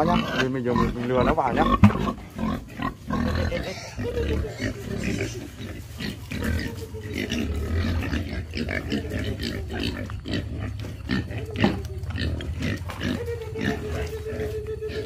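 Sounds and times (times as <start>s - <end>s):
pigs grunting and squealing: 0.0s - 15.0s.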